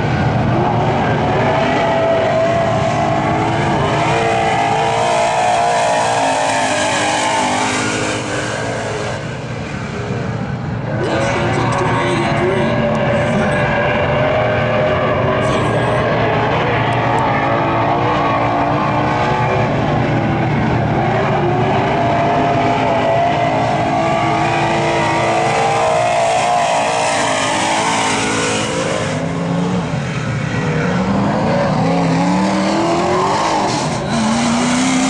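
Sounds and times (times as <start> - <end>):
race car engine at high revs: 0.0 - 35.0.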